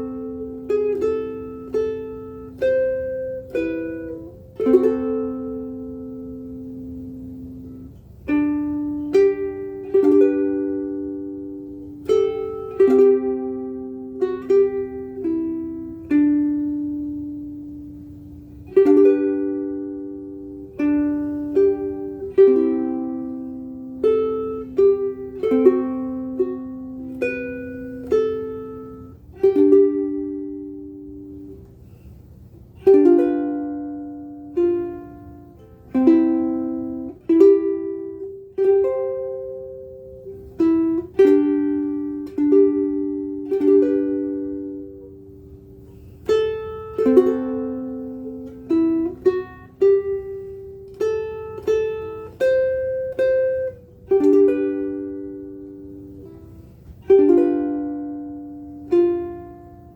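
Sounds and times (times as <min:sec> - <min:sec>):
ukulele plucked melody and chords: 0:00.0 - 0:59.9.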